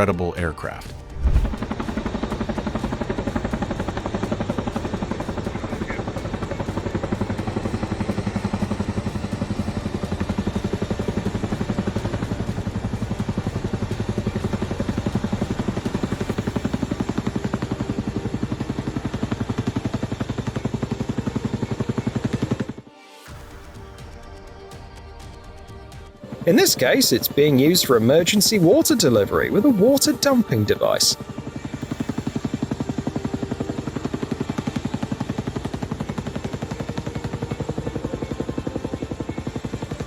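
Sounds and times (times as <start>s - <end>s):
helicopter rotor blades: 0.0s - 40.0s.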